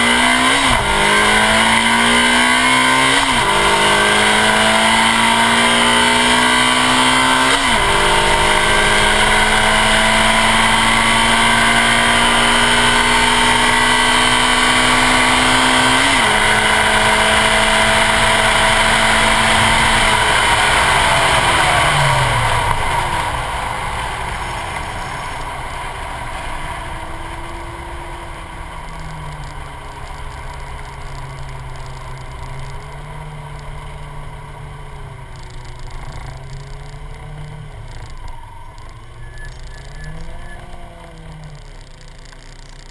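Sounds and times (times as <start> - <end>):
car engine revving: 0.0 - 42.9
road rumble: 0.0 - 42.9.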